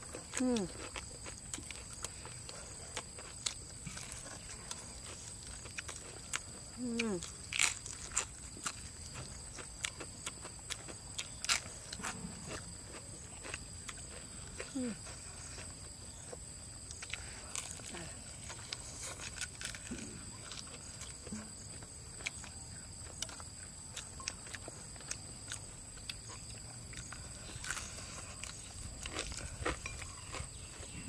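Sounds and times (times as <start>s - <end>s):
people chewing and smacking lips: 0.0s - 31.0s.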